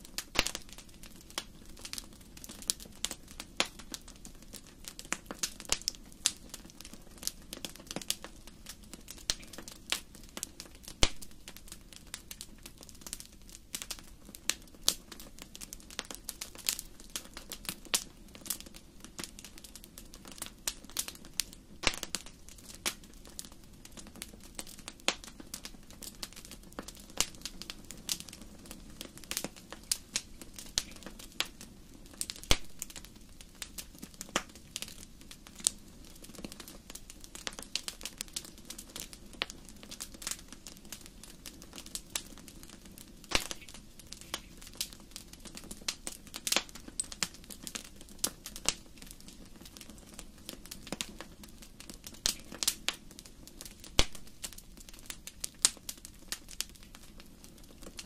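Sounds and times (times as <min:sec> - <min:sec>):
wood fire crackling: 0:00.0 - 0:58.0
low rush of flames: 0:00.1 - 0:58.0
sharp pops of fire: 0:00.1 - 0:58.0.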